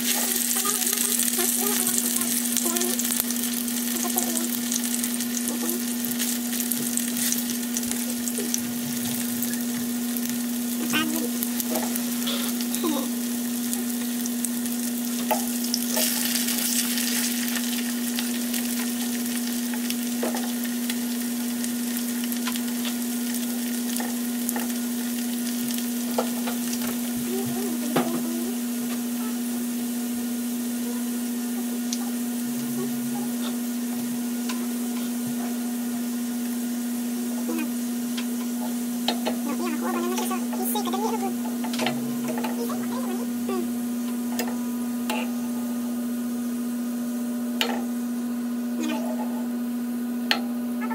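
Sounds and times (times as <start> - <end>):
sausages sizzling in oil: 0.0 - 50.9
steady low hum: 0.0 - 50.9.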